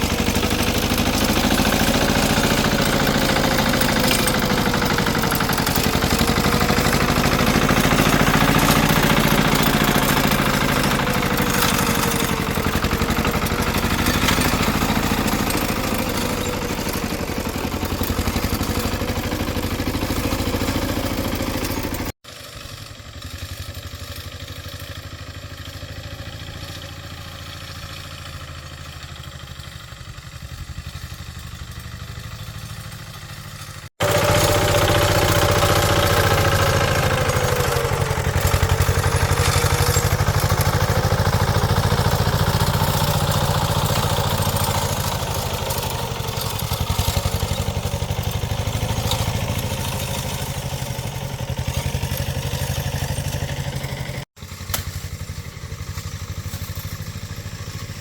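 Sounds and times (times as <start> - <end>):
farm machine engine running: 0.0 - 58.0.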